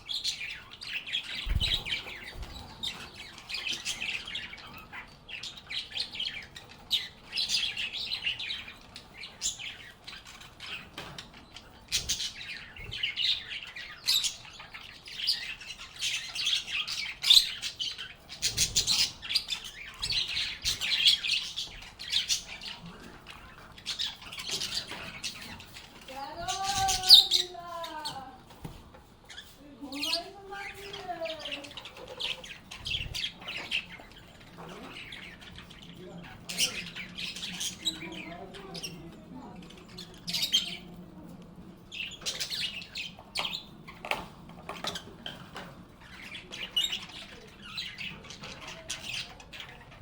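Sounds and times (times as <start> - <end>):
lovebirds chirping: 0.0 - 50.0.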